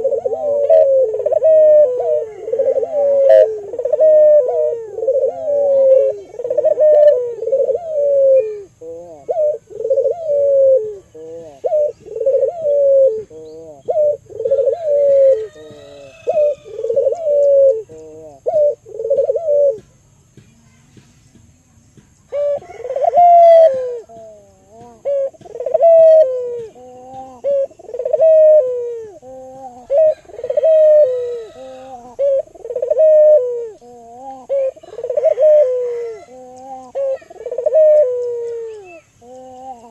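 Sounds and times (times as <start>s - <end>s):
pigeon cooing: 0.0s - 20.0s, 22.3s - 39.9s.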